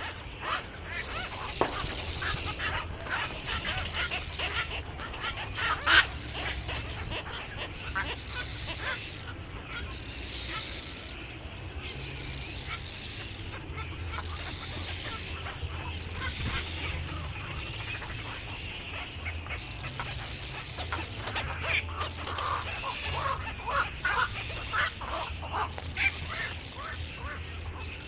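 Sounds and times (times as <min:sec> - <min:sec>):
birds calling: 0:00.0 - 0:28.0
low steady hum: 0:00.0 - 0:28.0.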